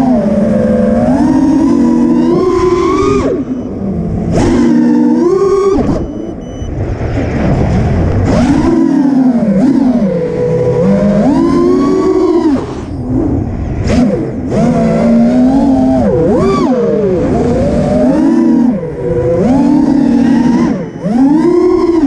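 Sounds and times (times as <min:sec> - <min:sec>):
quadcopter motors whining: 0:00.0 - 0:06.7, 0:08.2 - 0:22.0.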